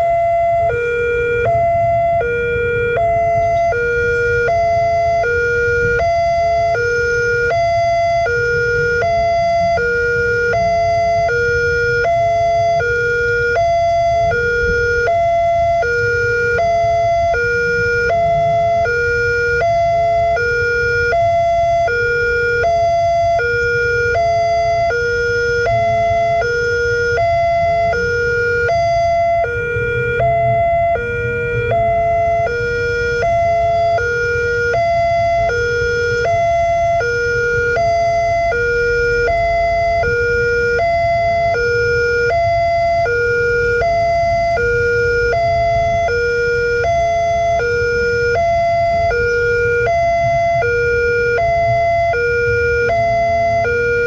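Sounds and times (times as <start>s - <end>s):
two-tone crossing alarm: 0.0s - 54.0s.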